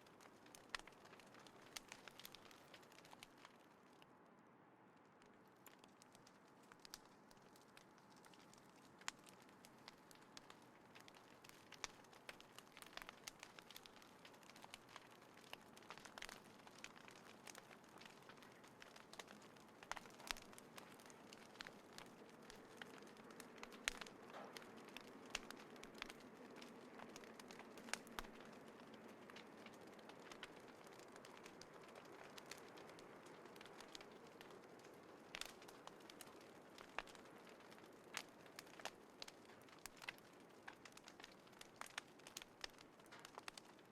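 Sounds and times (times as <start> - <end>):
fire crackling and popping: 0.0 - 4.2, 4.8 - 43.9.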